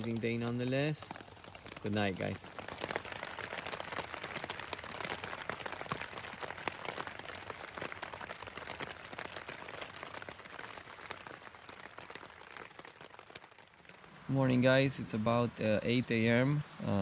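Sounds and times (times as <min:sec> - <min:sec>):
rain tapping on shelter: 0:00.0 - 0:15.0.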